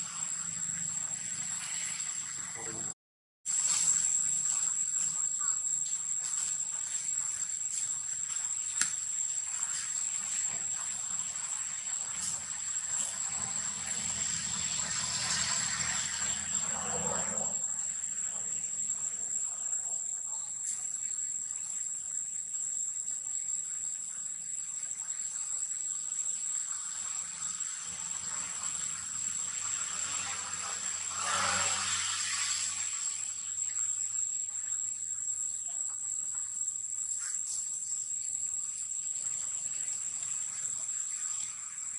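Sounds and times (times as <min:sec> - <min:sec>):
high-pitched insect drone: 0:00.0 - 0:41.9.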